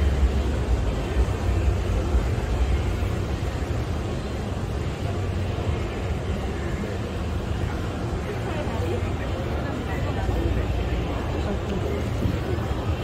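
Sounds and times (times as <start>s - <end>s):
faint murmur of visitors: 0.0s - 13.0s.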